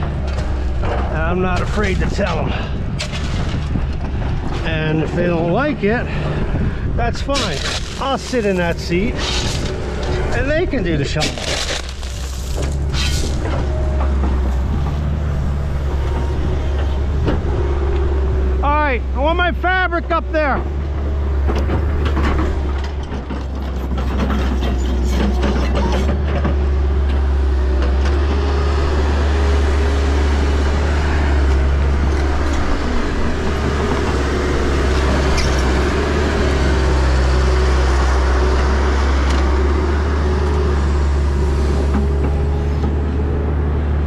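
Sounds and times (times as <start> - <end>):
diesel excavator engine running: 0.0 - 44.0.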